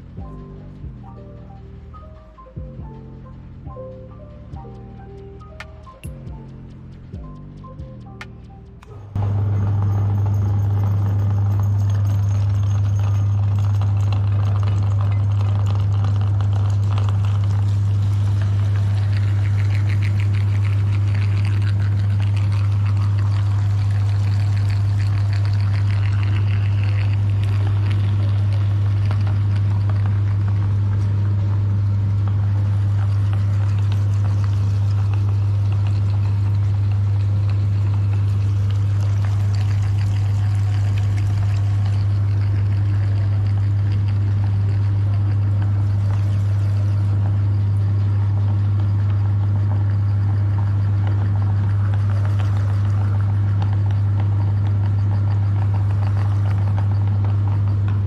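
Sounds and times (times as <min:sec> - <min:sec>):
electric meat grinder humming: 0:09.2 - 0:58.0.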